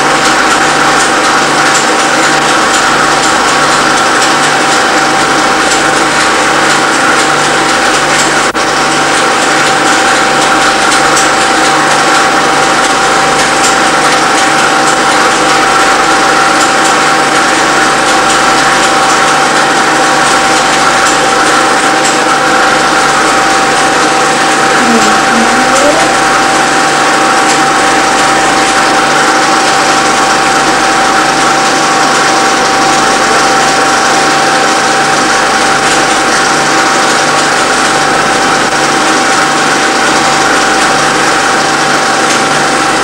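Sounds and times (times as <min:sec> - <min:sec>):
film projector whirring: 0:00.0 - 0:43.0.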